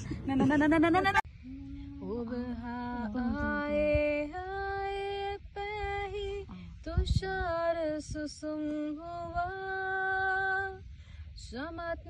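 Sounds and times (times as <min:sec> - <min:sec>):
woman singing unaccompanied: 0:00.4 - 0:12.0.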